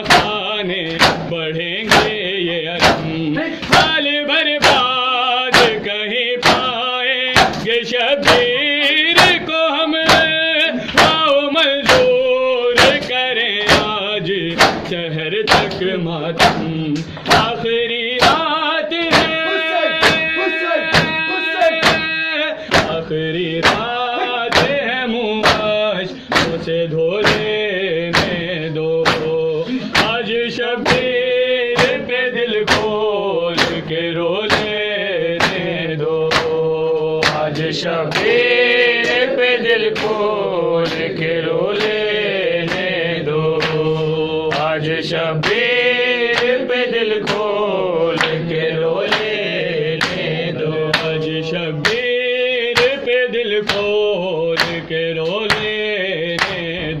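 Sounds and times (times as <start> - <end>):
chest-beating slaps: 0.0 - 24.8, 25.4 - 31.2, 31.8 - 32.0, 32.6 - 46.6, 47.2 - 52.1, 54.5 - 56.7
men chanting a lament: 0.0 - 57.0.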